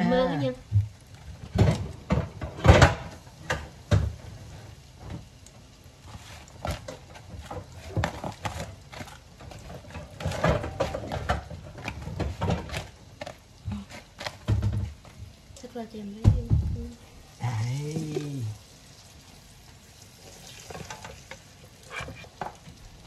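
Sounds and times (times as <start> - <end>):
cutlets deep-frying in oil: 0.0 - 23.0.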